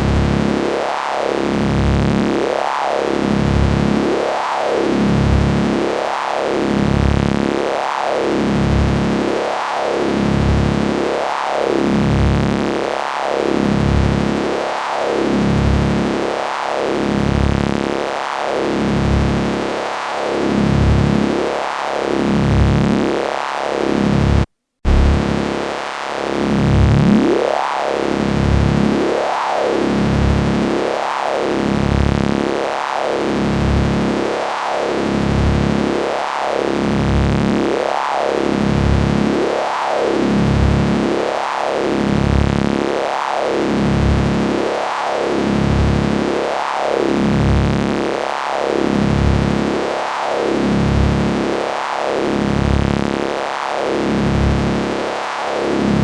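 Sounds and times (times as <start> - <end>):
sweeping electric buzzing hum: 0.0 - 56.0.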